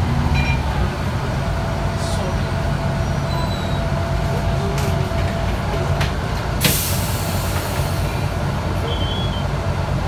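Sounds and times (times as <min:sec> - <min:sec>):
diesel engine drone: 0:00.0 - 0:10.0.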